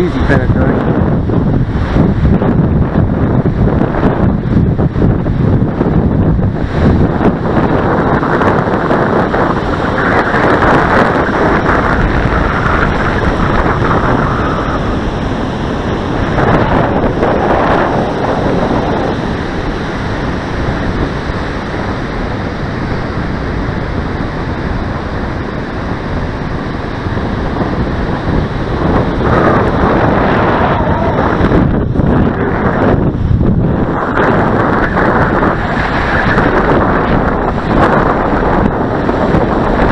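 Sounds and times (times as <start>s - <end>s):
surf washing: 0.0s - 39.9s
wind buffeting microphone: 0.0s - 39.9s.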